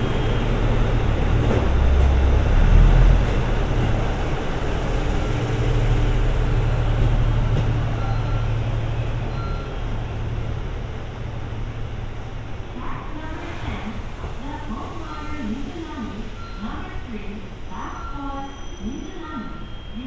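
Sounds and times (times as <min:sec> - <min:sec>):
train engines and wheels rumbling: 0:00.0 - 0:20.0.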